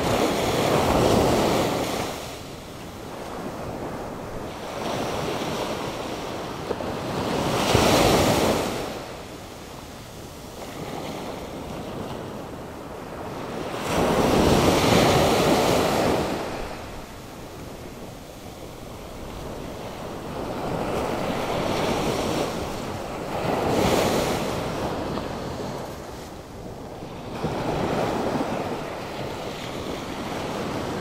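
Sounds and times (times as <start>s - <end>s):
big waves crashing: 0.0s - 31.0s
surf washing up shore: 0.0s - 31.0s.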